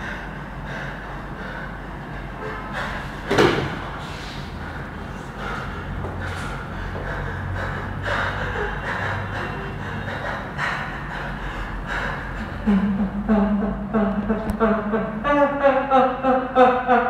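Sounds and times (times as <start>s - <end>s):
person gasping breaths: 0.0s - 14.5s
low steady hum: 0.0s - 17.0s.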